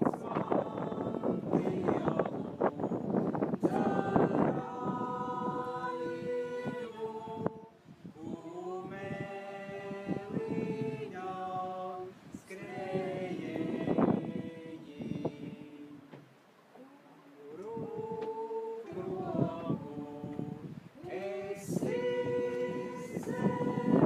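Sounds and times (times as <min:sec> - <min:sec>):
choir singing held chords: 0:00.0 - 0:16.2, 0:17.4 - 0:24.0.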